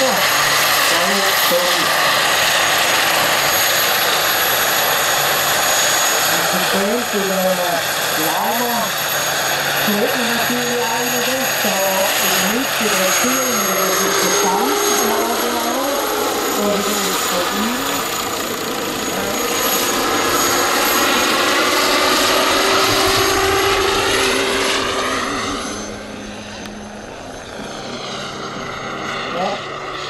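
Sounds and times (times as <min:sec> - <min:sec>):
helicopter rotor noise: 0:00.0 - 0:30.0
model helicopter turbine whine: 0:00.0 - 0:30.0.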